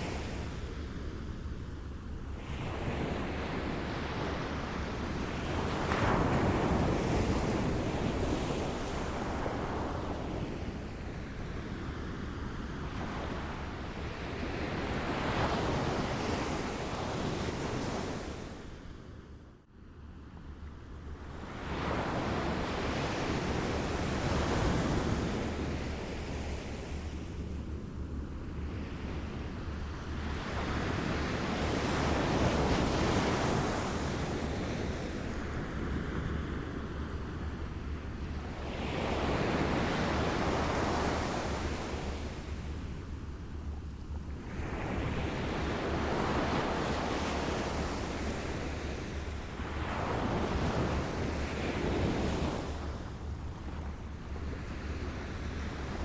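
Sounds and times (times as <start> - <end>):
waves lapping on a shore: 2.2 - 18.9, 20.9 - 56.0.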